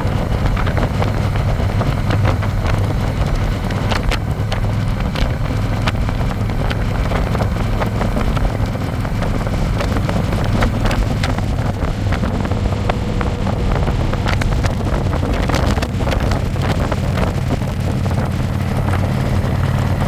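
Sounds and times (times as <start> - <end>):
motorcycle engine running: 0.0 - 20.0
wind on microphone: 0.0 - 20.0.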